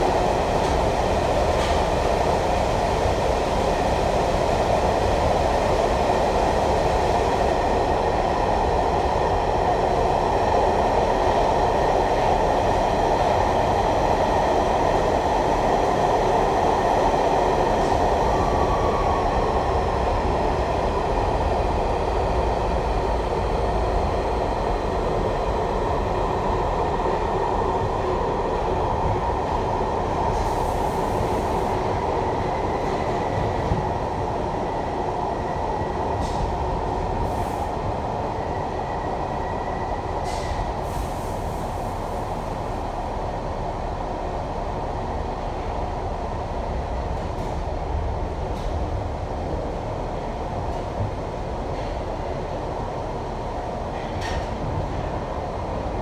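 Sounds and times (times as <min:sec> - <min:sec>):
subway car rumble: 0:00.0 - 0:56.0.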